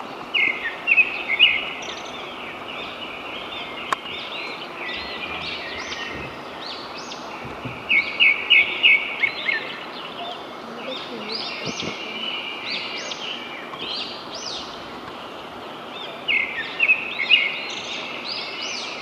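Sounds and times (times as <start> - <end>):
forest background hiss: 0.0 - 19.0
wild birds chirping and calling: 0.2 - 19.0.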